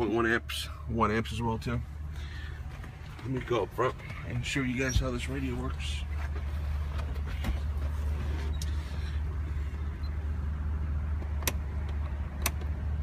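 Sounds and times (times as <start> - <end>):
van engine idling: 0.0 - 13.0.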